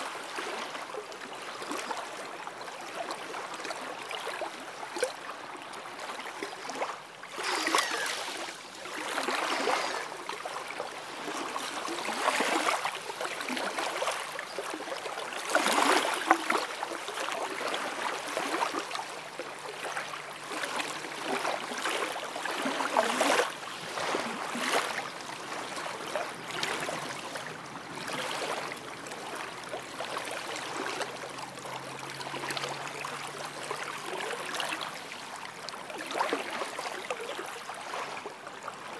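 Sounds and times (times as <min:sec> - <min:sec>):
waves lapping on shore: 0:00.0 - 0:38.9.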